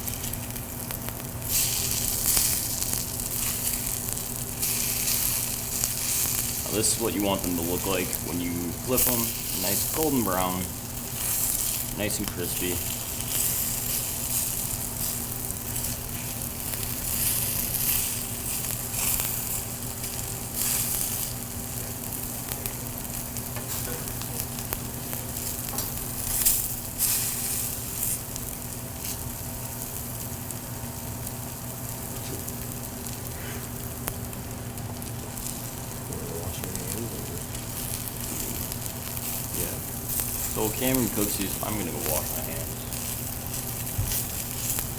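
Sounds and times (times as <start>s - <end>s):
low electrical hum: 0.0s - 44.9s
pancakes sizzling in a frying pan: 0.0s - 44.9s.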